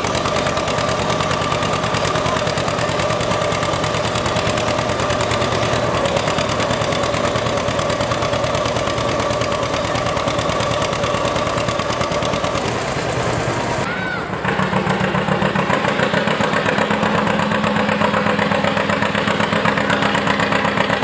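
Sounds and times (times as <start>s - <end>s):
tractor engine popping exhaust: 0.0s - 21.0s.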